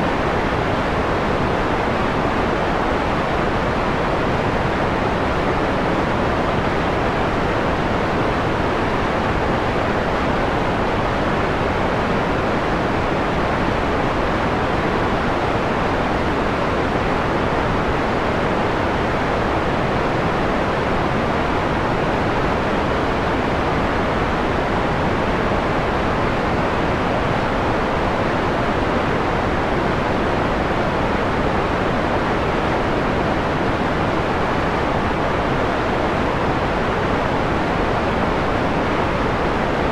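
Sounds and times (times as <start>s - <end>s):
filtered white noise hiss: 0.0s - 39.9s.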